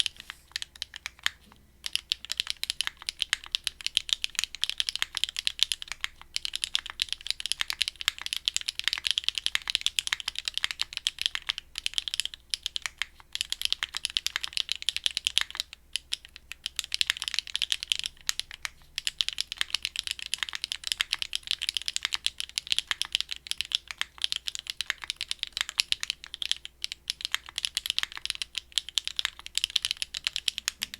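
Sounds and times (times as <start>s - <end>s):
mechanical keyboard typing: 0.0s - 30.9s.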